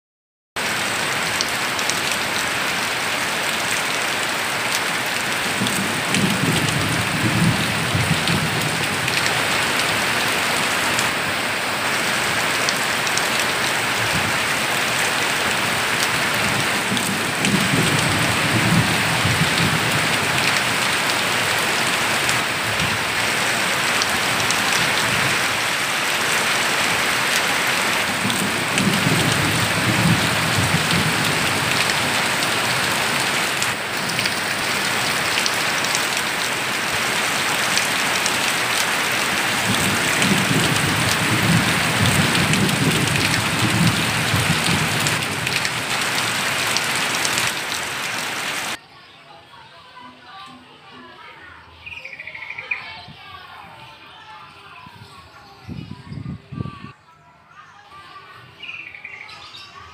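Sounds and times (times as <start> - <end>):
heavy rain on leaves and roof: 0.6 - 48.8
water running off roof: 0.6 - 48.8.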